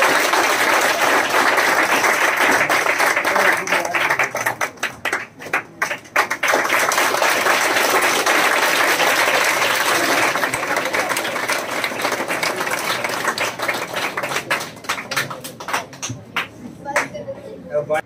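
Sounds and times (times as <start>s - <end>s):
crowd applauding: 0.0s - 17.1s.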